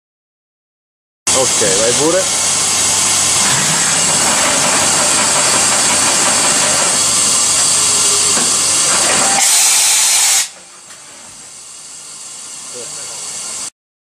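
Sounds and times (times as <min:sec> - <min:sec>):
machining center hissing: 0:01.3 - 0:13.7.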